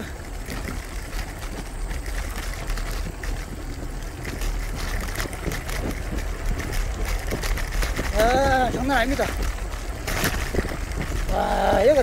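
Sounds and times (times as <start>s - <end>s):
bicycle tyres rumbling: 0.0s - 12.0s
bike knocks and rattles: 0.0s - 12.0s
wind buffeting microphone: 0.0s - 12.0s.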